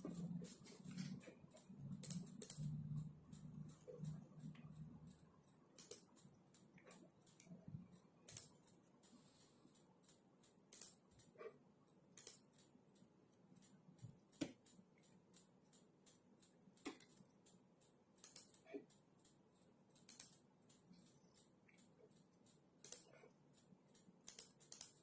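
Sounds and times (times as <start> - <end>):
typing on computer keyboard: 0.0 - 25.0.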